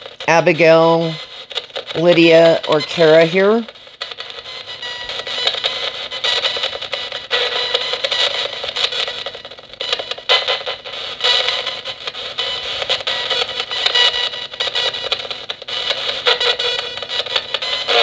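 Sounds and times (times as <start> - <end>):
choppy radio static: 0.0 - 18.0
fragments of broadcast sound: 0.0 - 18.0.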